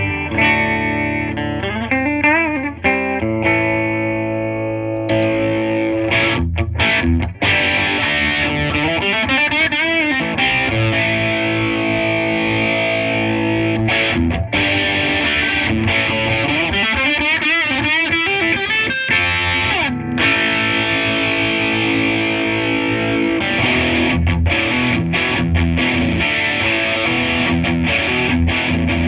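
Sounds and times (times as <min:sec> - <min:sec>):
distorted electric guitar: 0:00.0 - 0:29.0
electric guitar with string bends: 0:00.0 - 0:29.0.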